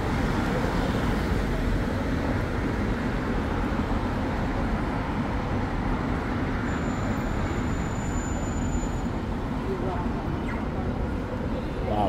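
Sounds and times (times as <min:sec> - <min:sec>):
cars passing on a street: 0:00.0 - 0:12.0.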